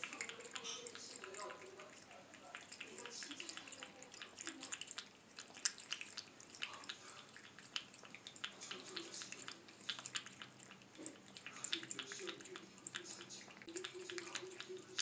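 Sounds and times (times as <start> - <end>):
cat lapping water: 0.0 - 15.0.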